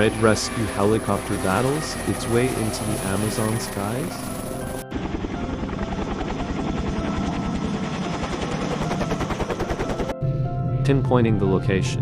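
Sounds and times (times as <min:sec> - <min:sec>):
helicopter rotor chopping: 0:00.0 - 0:10.2.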